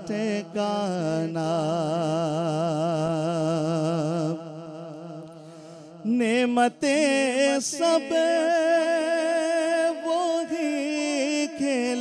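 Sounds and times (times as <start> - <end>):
person singing with vibrato: 0.0 - 12.0.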